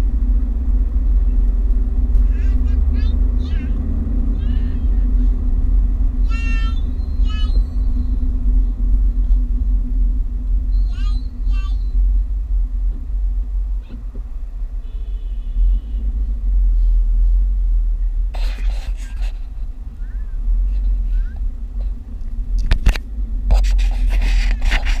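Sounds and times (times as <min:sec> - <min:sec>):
car rumble inside cabin: 0:00.0 - 0:25.0.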